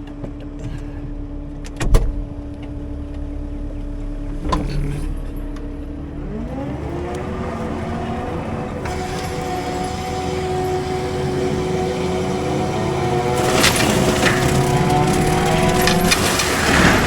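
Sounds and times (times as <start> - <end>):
diesel excavator engine running: 0.0 - 17.0.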